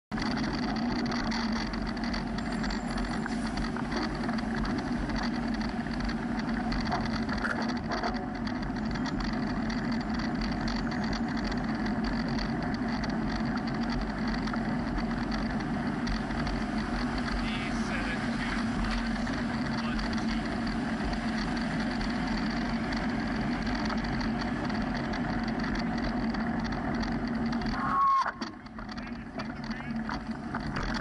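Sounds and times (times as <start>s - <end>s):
city traffic passing: 0.1s - 31.0s.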